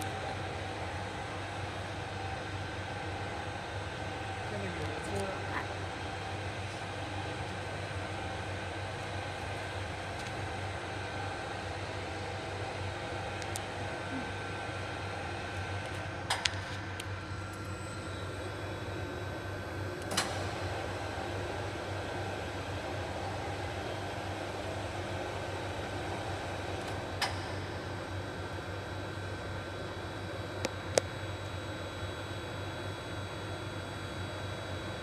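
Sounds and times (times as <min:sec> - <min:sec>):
machinery humming: 0:00.0 - 0:35.0.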